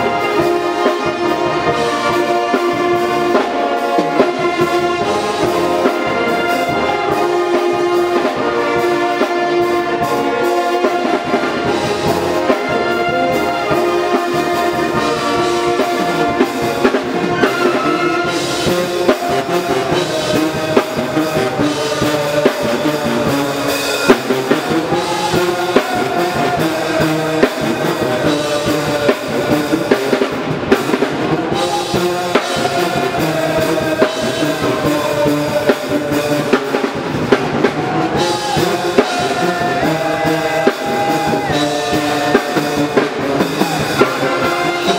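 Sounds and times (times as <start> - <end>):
drums keeping beat: 0.0 - 44.9
pep band brass music: 0.0 - 44.9.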